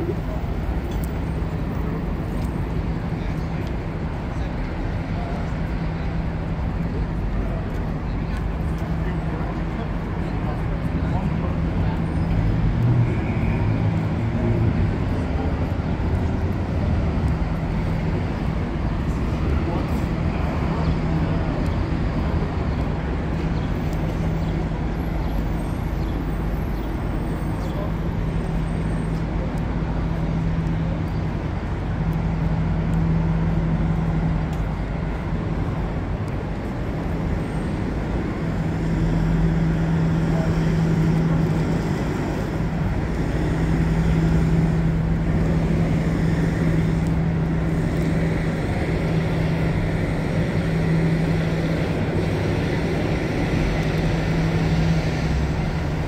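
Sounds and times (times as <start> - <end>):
passing cars rumbling: 0.0 - 56.0.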